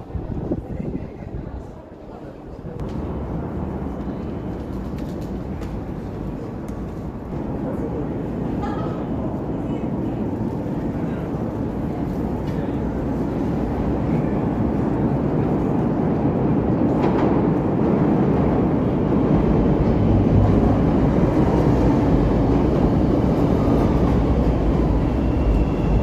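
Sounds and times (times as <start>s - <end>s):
train rumbling on tracks: 0.0s - 26.0s.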